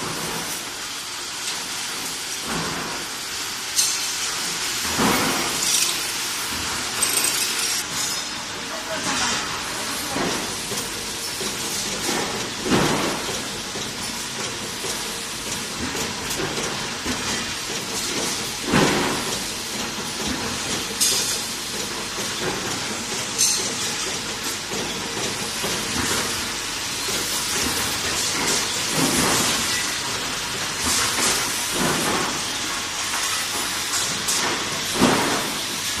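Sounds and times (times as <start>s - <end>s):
hissing factory noise: 0.0s - 36.0s.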